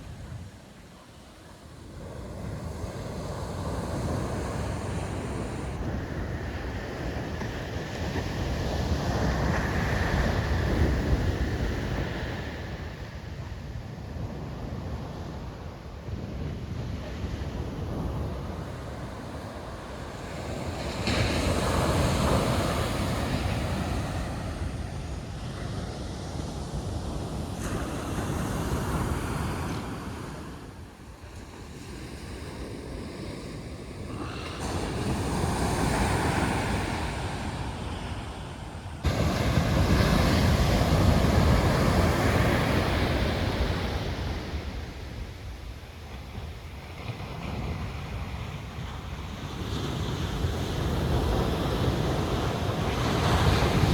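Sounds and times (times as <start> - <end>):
waves breaking on shore: 0.0 - 53.9
wind buffeting microphone: 1.8 - 53.9.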